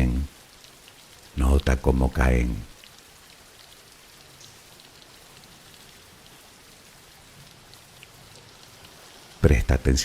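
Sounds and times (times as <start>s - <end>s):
gentle rain hiss: 0.0s - 10.0s
raindrop ticks: 0.0s - 10.0s.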